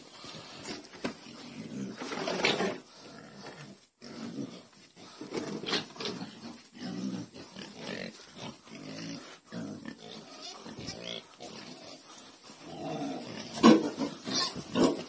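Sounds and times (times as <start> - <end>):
pigs grunting and squealing: 0.2 - 15.0.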